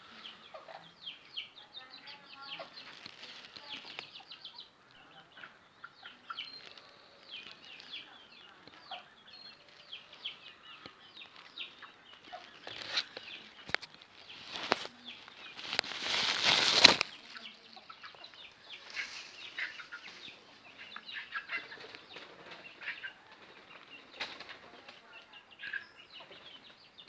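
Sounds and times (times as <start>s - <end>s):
chickens peeping: 0.0s - 27.0s.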